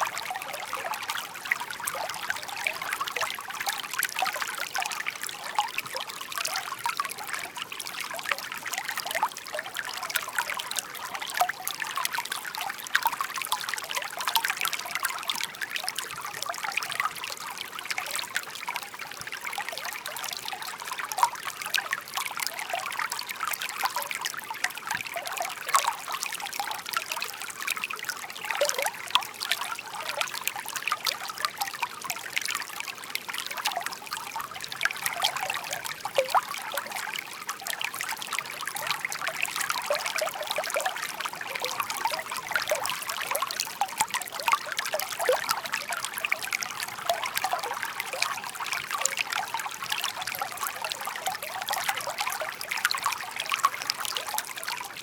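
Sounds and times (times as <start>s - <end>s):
stream babbling and trickling: 0.0s - 55.0s.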